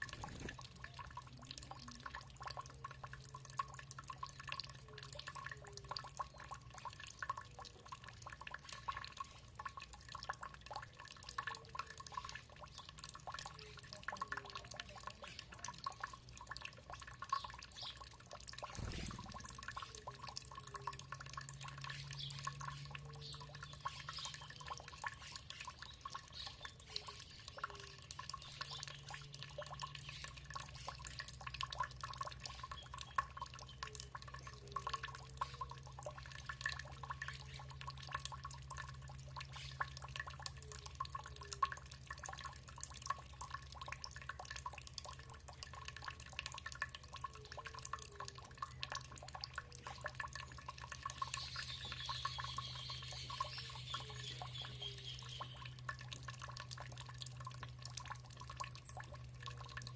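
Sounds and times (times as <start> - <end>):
water dripping and trickling: 0.0 - 59.9.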